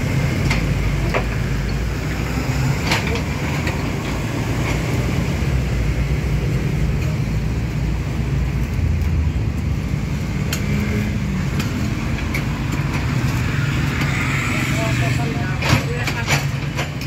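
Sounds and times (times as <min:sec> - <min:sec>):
diesel engine of digging machinery: 0:00.0 - 0:17.0.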